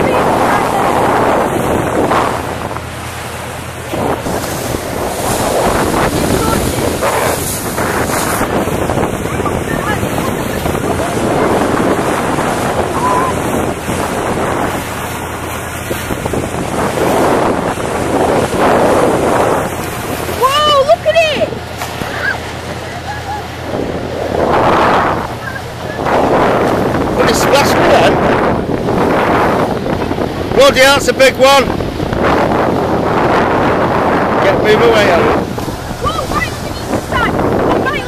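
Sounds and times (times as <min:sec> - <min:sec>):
water washing: 0:00.0 - 0:38.0
wind gusting on microphone: 0:00.0 - 0:38.0.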